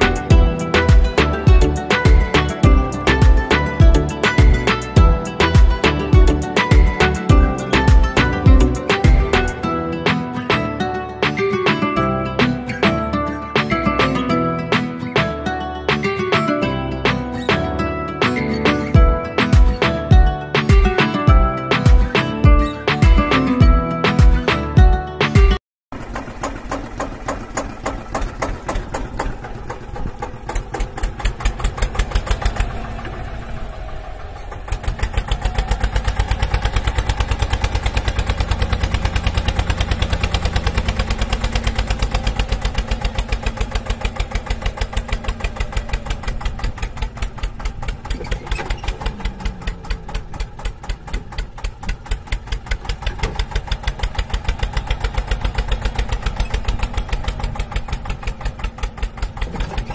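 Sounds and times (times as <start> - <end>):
diesel tractor engine chugging: 0.0 - 25.0, 25.9 - 59.9.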